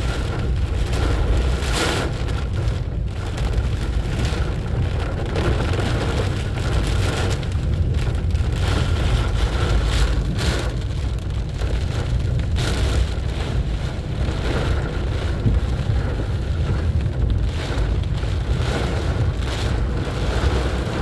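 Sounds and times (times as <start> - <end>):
car and road rumble: 0.0 - 21.0
heavy rain on a car: 0.0 - 21.0.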